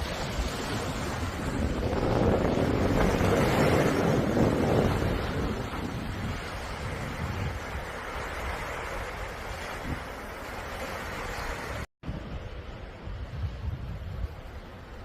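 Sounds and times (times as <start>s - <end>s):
sea waves on shore: 0.0s - 15.0s
wind buffeting microphone: 0.0s - 15.0s.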